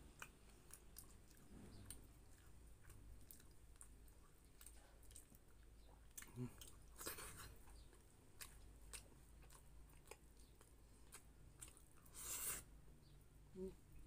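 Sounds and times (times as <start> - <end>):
man chewing and smacking: 0.0 - 12.5.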